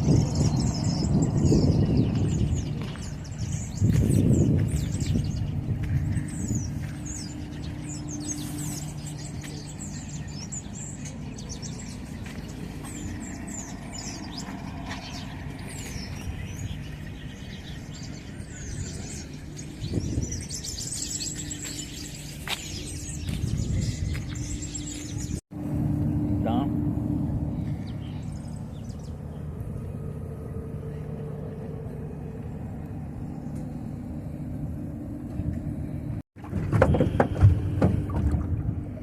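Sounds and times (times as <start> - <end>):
small birds chirping: 0.0 - 25.4, 27.3 - 34.0
steady low hum: 0.0 - 39.0.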